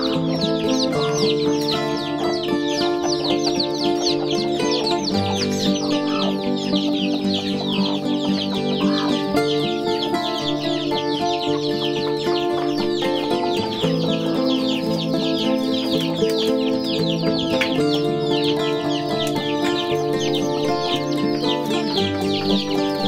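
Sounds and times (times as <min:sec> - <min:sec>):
background music of held chords: 0:00.0 - 0:23.0
chicks peeping: 0:00.0 - 0:23.0.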